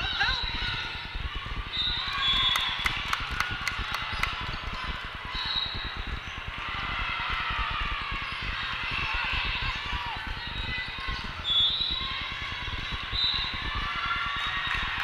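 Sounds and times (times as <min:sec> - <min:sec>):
voices and shouts echoing: 0:00.0 - 0:15.0.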